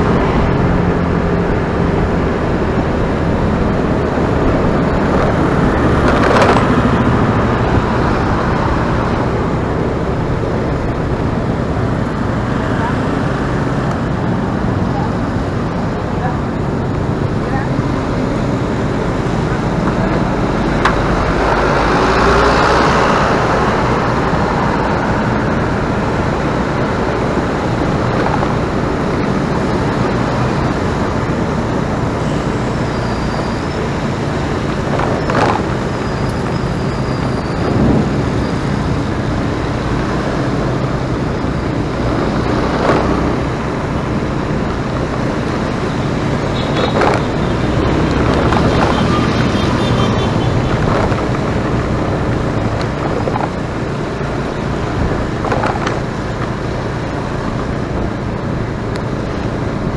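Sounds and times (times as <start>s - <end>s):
rushing noise: 0.0s - 59.9s.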